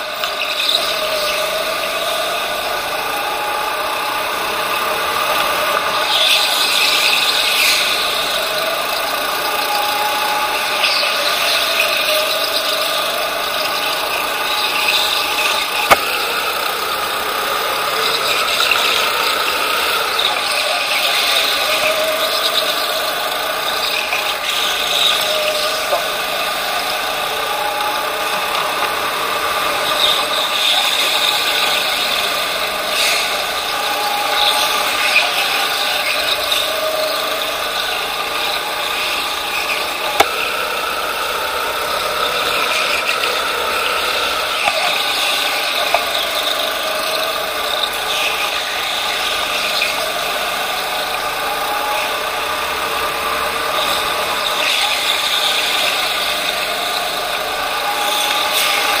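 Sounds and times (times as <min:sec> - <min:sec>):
kart motor whine: 0:00.0 - 0:59.0.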